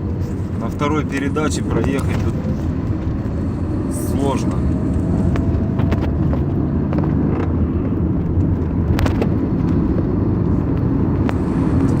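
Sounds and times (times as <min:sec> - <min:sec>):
car engine and tyres rumbling: 0:00.0 - 0:12.0
car knocking and rattling over potholes: 0:00.0 - 0:12.0.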